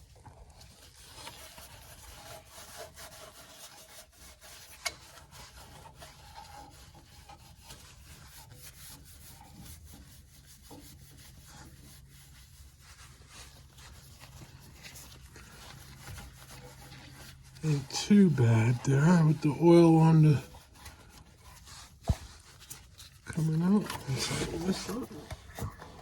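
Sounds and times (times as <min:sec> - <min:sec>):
rag rubbing on oil filter: 0:00.0 - 0:26.0.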